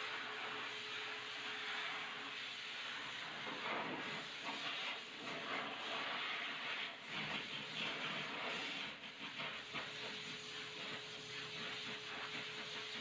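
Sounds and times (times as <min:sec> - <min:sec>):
pet blow dryer hissing: 0:00.0 - 0:13.0.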